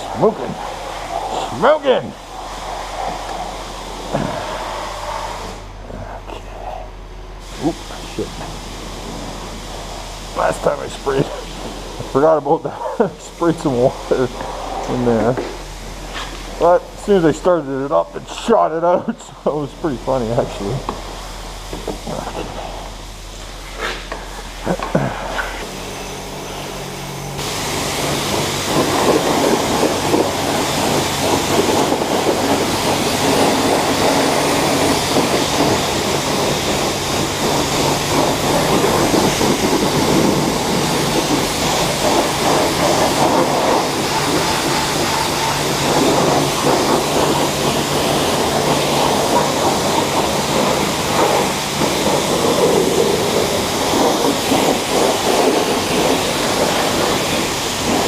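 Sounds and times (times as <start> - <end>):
high-pressure water spraying: 0.0 - 58.0
low hum: 0.0 - 58.0.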